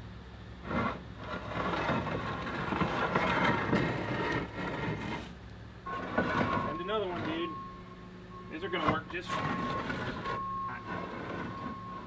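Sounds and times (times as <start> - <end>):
steady low hum: 0.0 - 12.0
stone panel scraping: 0.6 - 7.6, 8.5 - 12.0.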